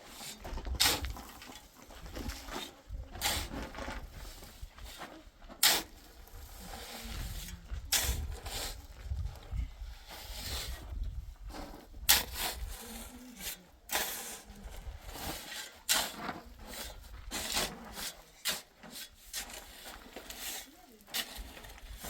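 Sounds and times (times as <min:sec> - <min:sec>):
scraping strokes: 0:00.1 - 0:22.0.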